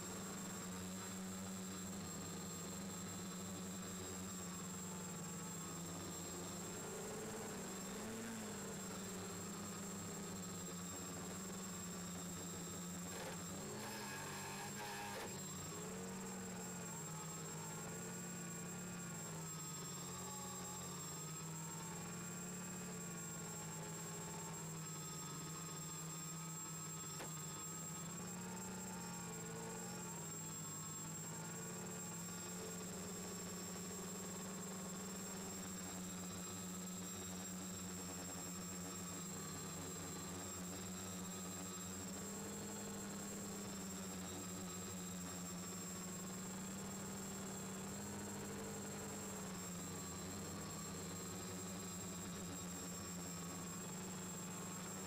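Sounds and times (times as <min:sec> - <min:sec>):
quadcopter motors humming: 0:00.0 - 0:55.0.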